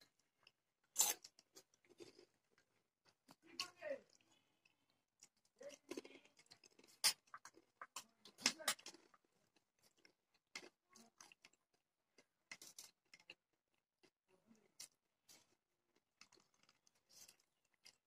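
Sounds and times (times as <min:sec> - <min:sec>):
chewing and crunching snacks: 0:00.0 - 0:18.0.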